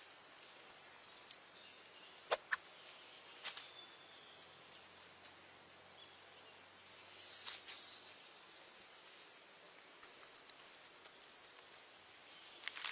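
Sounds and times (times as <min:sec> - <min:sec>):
faint background hiss: 0:00.0 - 0:12.9.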